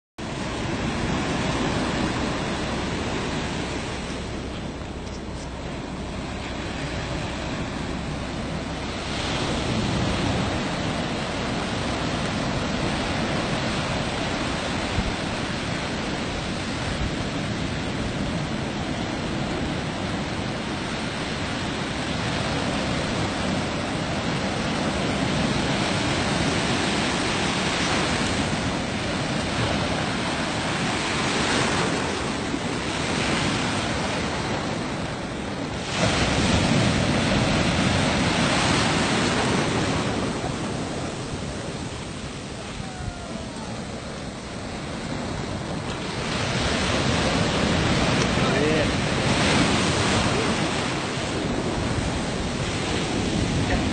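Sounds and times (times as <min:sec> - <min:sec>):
ocean surf washing ashore: 0:00.2 - 0:53.9.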